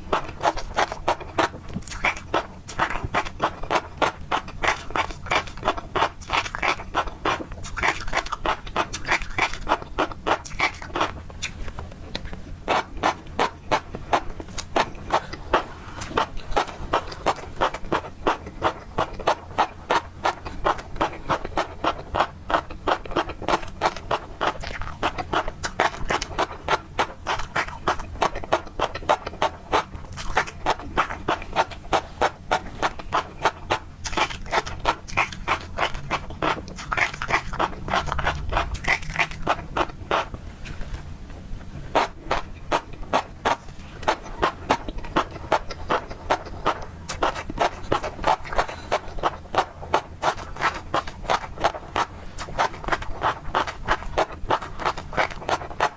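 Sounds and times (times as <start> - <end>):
chewing crisp pops and crunches: 0.0 - 55.9.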